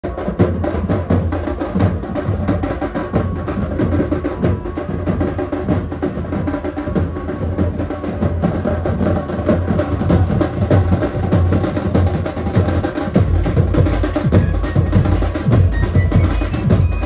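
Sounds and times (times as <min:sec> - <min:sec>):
fast drumming: 0:00.0 - 0:17.0.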